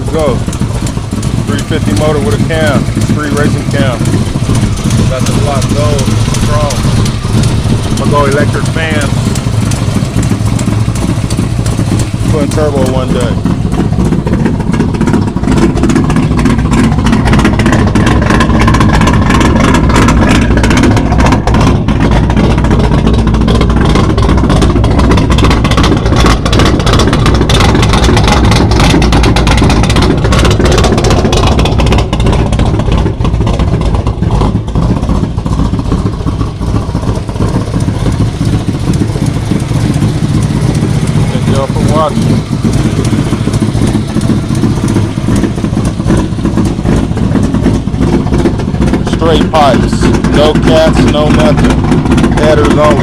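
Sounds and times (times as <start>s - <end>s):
loud vee eight engine exhaust: 0.0s - 53.0s.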